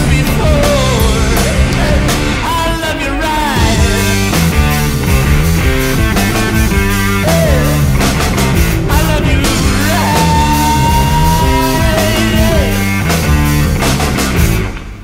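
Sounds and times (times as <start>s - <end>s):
loud stoner rock music: 0.0s - 15.0s.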